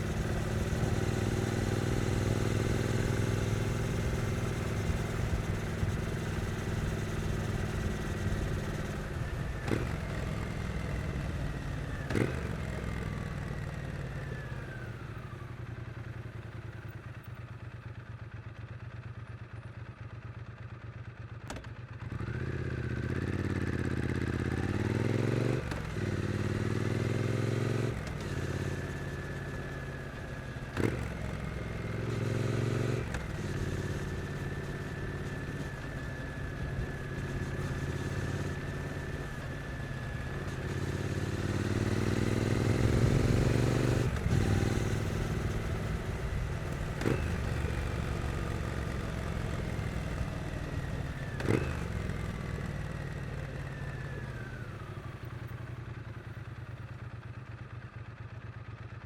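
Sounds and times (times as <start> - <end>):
motorcycle engine shifting gears: 0.0 - 15.4, 21.4 - 56.9.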